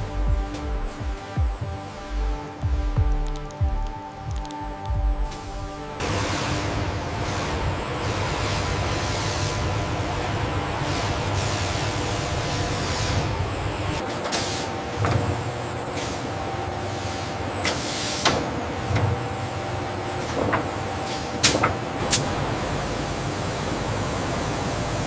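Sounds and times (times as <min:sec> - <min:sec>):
factory machinery humming: 0:00.0 - 0:25.0.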